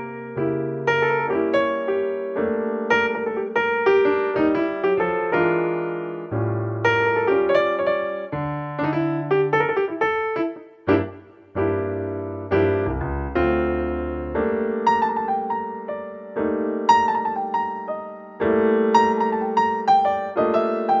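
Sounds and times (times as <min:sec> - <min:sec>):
soft piano piece: 0:00.0 - 0:21.0.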